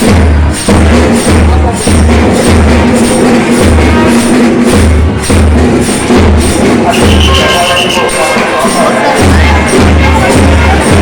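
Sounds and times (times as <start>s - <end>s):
deep drum beats: 0.0s - 11.0s.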